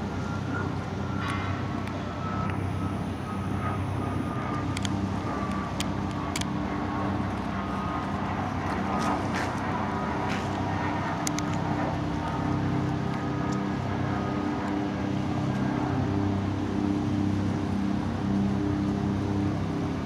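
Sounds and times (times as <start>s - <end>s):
boat engines humming: 0.0s - 20.0s.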